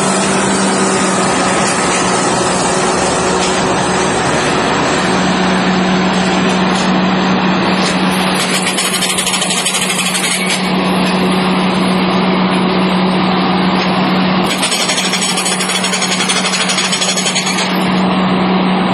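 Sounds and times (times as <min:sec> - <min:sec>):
well-drilling machine running: 0:00.0 - 0:18.9.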